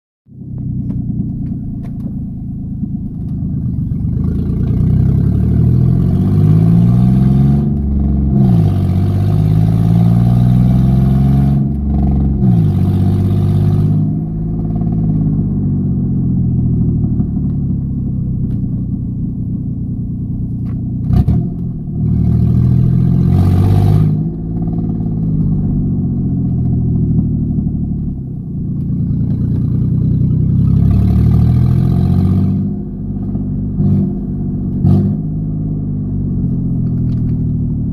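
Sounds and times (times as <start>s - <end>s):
car engine idling and revving: 0.2s - 37.9s.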